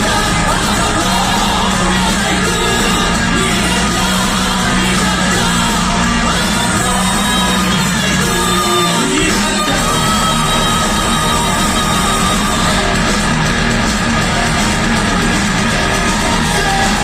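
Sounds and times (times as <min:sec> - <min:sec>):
instrumental rock band music: 0:00.0 - 0:17.0.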